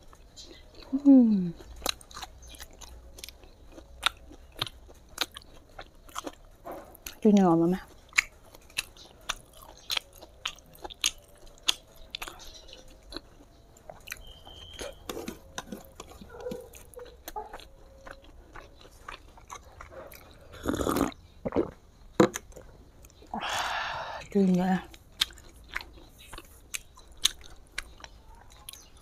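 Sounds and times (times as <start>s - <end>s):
person chewing with wet smacks: 0.0s - 23.4s, 24.2s - 29.0s.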